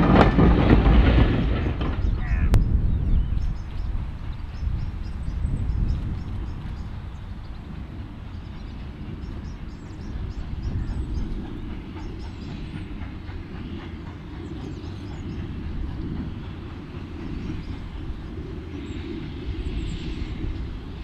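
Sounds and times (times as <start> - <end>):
steam locomotive rumbling: 0.0 - 21.0.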